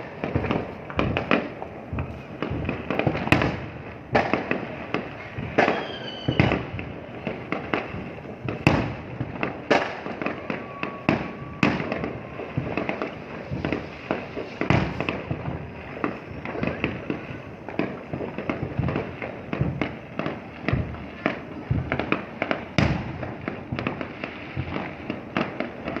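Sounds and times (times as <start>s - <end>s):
firework whistle: 0.0s - 26.0s
fireworks bangs and crackles: 0.0s - 26.0s.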